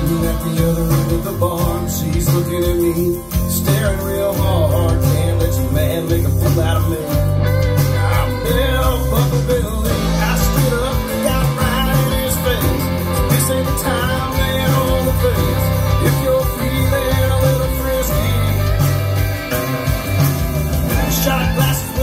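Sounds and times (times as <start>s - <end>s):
country-rock guitar: 0.0s - 22.0s.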